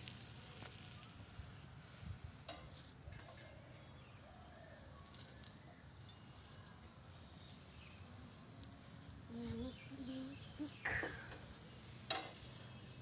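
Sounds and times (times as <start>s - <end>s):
flatbread crackling on a griddle: 0.0s - 13.0s.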